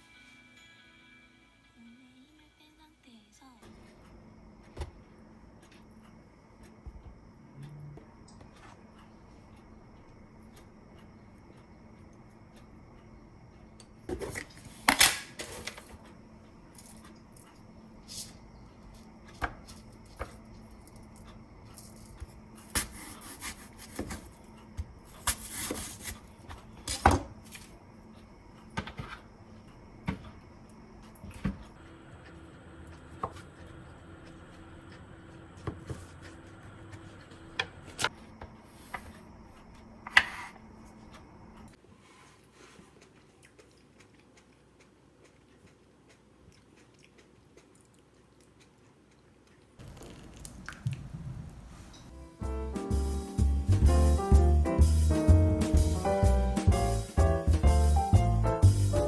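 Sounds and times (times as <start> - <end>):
faint room hum: 0.0 - 59.0.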